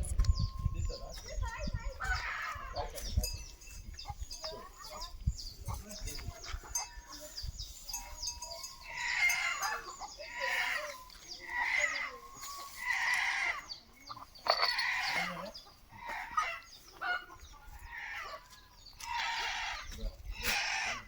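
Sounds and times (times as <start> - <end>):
high bird chirps: 0.0 - 20.6
chickens calling: 0.0 - 21.0.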